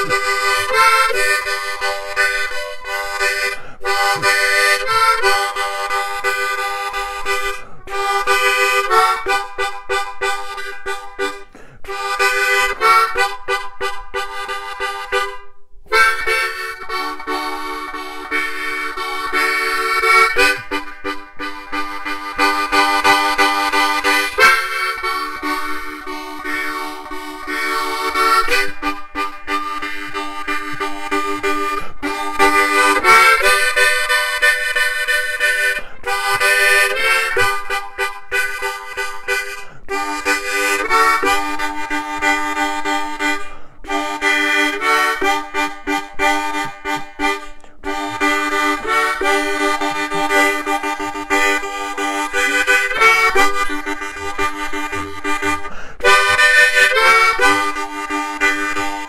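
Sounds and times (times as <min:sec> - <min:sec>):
harmonica playing chords: 0:00.0 - 0:59.0.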